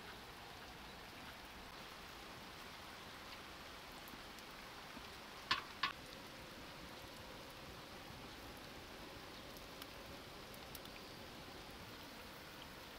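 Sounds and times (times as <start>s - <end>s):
wood fire crackling: 0.0s - 12.9s.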